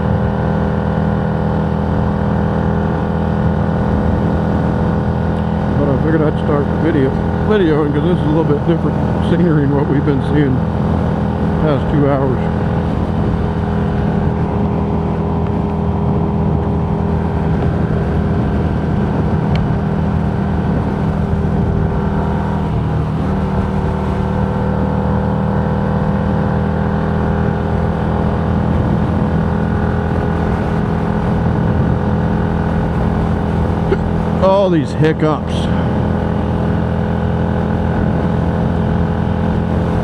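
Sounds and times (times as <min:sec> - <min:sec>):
road noise: 0:00.0 - 0:40.0
vehicle engine drone: 0:00.0 - 0:40.0.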